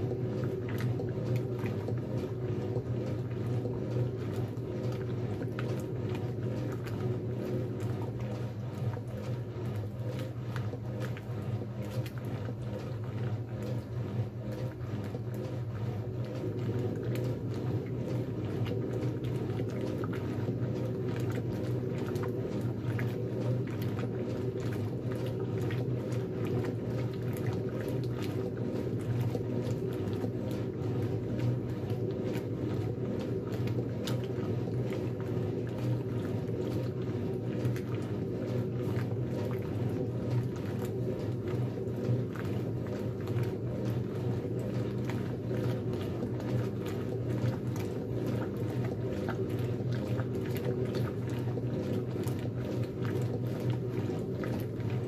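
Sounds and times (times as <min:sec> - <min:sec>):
washing machine motor hum: 0:00.0 - 0:55.0
water sloshing: 0:00.0 - 0:55.0.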